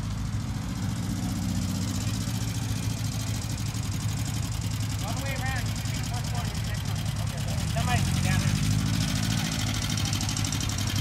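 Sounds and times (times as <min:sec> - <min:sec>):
van engine running at low revs: 0:00.0 - 0:11.0.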